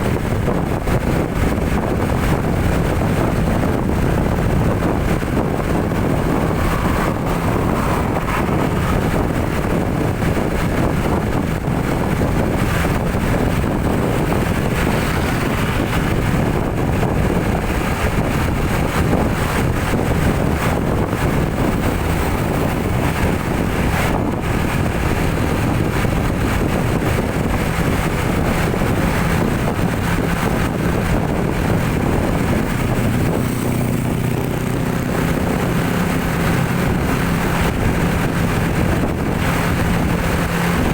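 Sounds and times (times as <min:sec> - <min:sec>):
vehicle engine and road noise: 0:00.0 - 0:40.9
wind buffeting microphone: 0:00.0 - 0:40.9.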